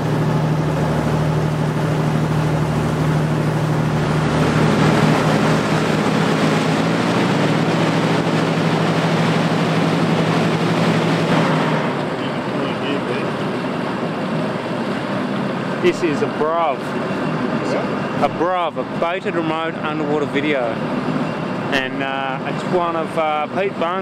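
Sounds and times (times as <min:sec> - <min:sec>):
boat engine humming: 0:00.0 - 0:24.0
churning wake water: 0:00.0 - 0:24.0.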